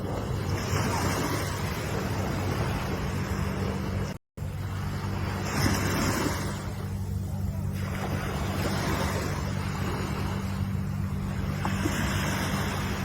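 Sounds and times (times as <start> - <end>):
ocean waves washing in: 0.0 - 13.0
steady low hum: 0.0 - 13.0.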